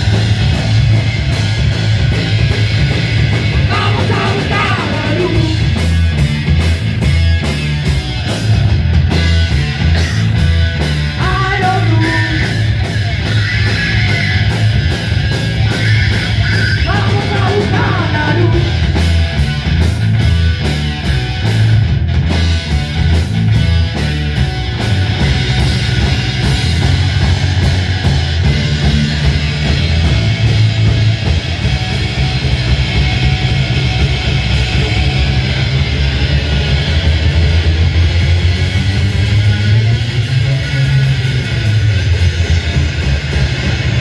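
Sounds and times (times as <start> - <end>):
distorted electric guitar: 0.0 - 44.0
drum kit: 0.0 - 44.0
electric bass: 0.0 - 44.0.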